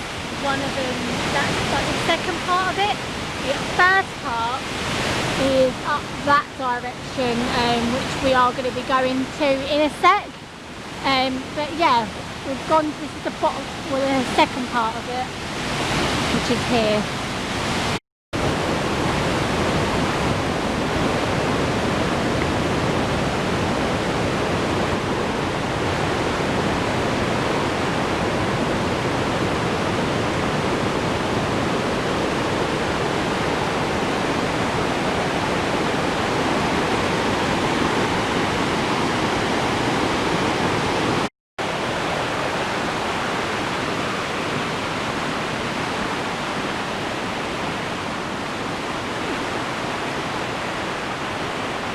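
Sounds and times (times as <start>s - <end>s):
waterfall roaring: 0.0s - 51.9s.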